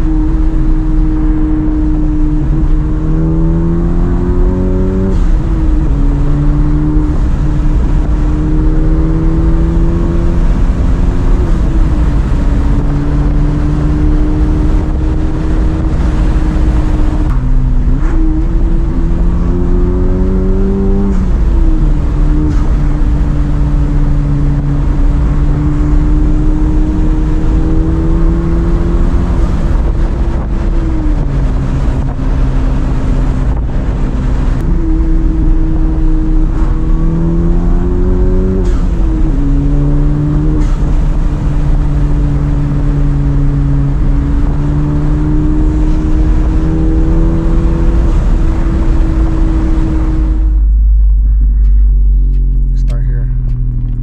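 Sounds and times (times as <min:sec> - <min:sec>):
car engine hum: 0:00.0 - 0:54.0
low tyre rumble: 0:00.0 - 0:54.0.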